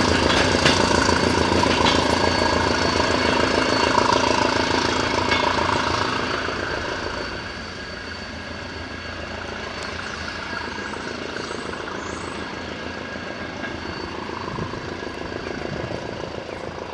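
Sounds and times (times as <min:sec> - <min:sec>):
diesel train engine running: 0:00.0 - 0:16.9.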